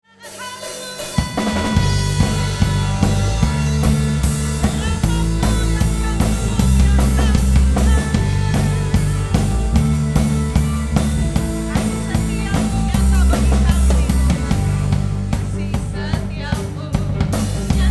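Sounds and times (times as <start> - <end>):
worship song with drums and bass: 0.2 - 17.9.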